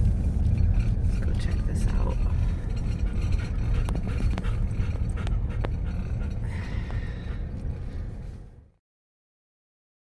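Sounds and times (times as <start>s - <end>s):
car engine and road rumble: 0.0s - 8.8s.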